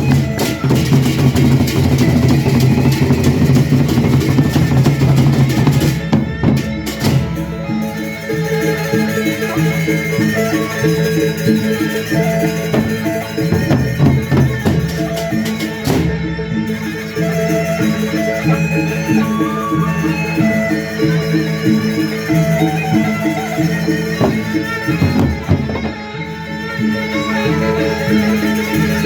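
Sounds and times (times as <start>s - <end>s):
drums: 0.0s - 29.0s
gongs and metal percussion: 0.0s - 29.0s.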